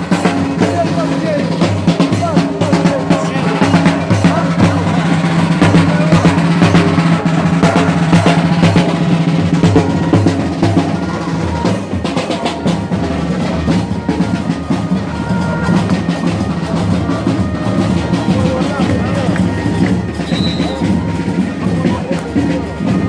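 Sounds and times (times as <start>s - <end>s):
marching drums beating: 0.0s - 23.0s.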